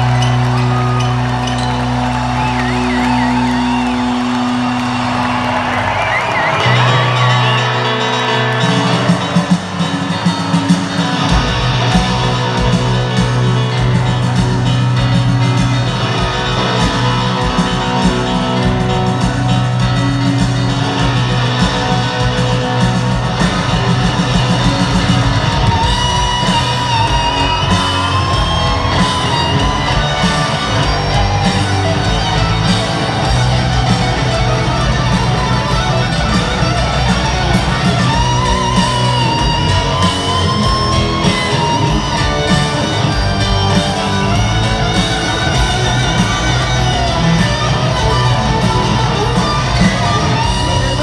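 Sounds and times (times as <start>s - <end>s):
electric guitar lead melody: 0.0s - 51.0s
grand piano: 0.0s - 51.0s
rock band playing: 0.0s - 51.0s.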